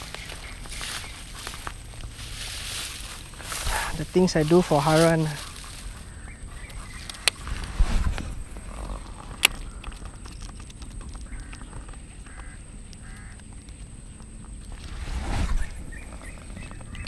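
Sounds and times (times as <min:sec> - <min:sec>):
low outdoor rumble: 0:00.0 - 0:17.0
rustle: 0:00.0 - 0:17.0.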